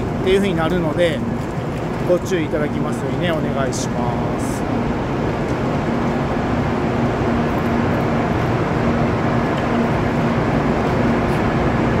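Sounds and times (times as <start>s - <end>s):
station platform hum: 0.0s - 12.0s.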